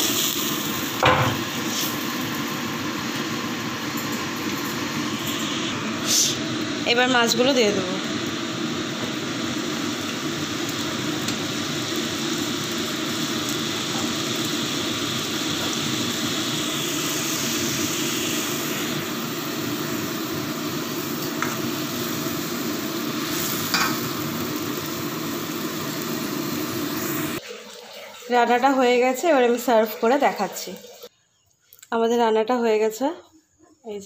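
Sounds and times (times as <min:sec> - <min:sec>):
gravy simmering and sizzling: 0:00.0 - 0:31.1.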